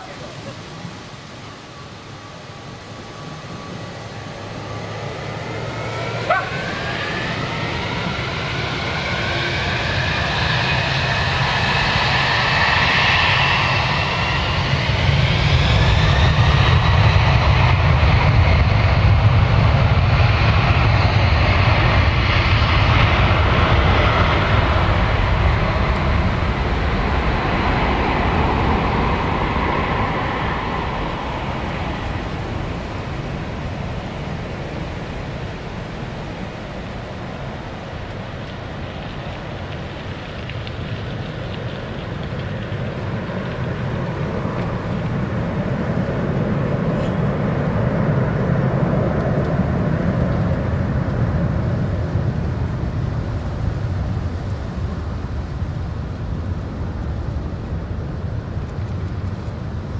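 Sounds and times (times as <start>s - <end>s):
jet engines whining at takeoff: 0.0s - 59.9s
deep engine rumble: 2.2s - 55.4s.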